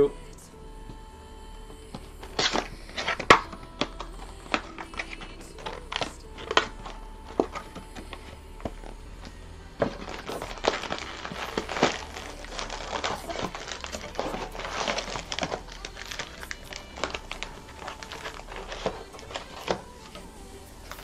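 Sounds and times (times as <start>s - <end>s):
cellophane packs crinkling: 2.2s - 8.9s, 9.8s - 21.0s.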